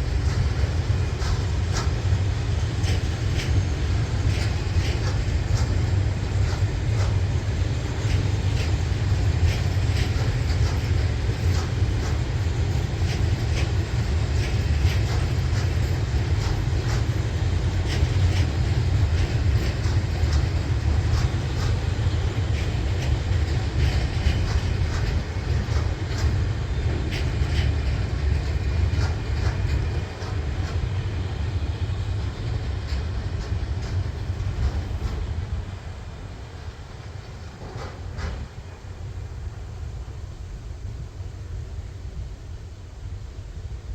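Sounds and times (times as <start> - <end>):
wheels clicking on rails: 0.0 - 38.9
train rumbling on track: 0.0 - 43.9.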